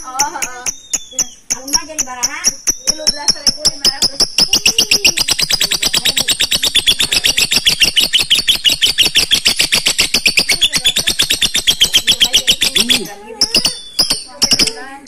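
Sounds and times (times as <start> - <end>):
lovebird chattering: 0.0 - 15.0.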